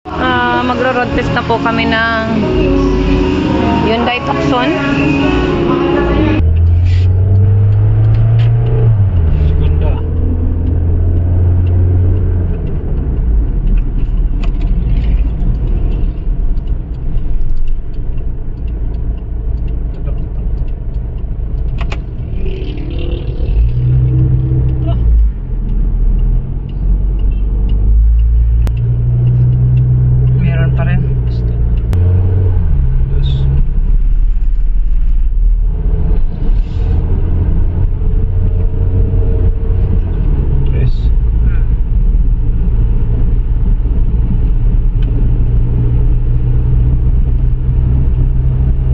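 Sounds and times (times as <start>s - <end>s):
car engine and road rumble: 0.0s - 48.9s
strong low drone: 0.1s - 48.9s.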